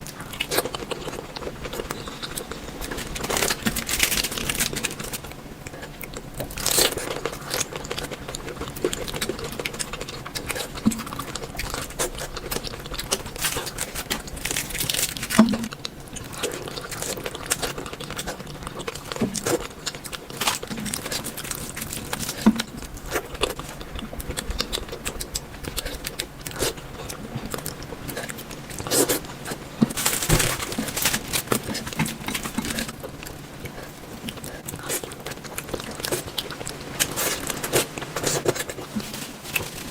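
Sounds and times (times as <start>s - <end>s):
crinkling and tearing: 0.0s - 39.9s
crunching and chewing: 0.0s - 39.9s.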